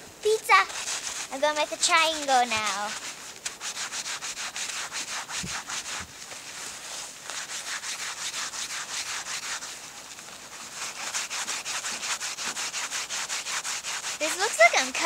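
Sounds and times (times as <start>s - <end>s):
scraping packed snow: 0.3s - 15.0s.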